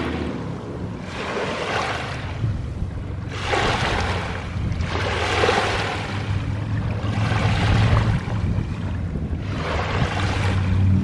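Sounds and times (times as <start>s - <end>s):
low steady rumble: 0.0s - 11.0s
waves lapping on pebbly shore: 1.0s - 2.5s, 3.2s - 11.0s.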